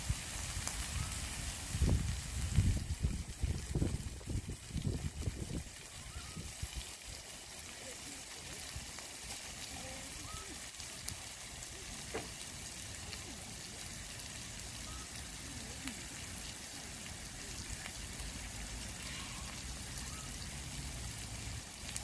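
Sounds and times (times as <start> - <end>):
food sizzling on barbecue plate: 0.0 - 22.0.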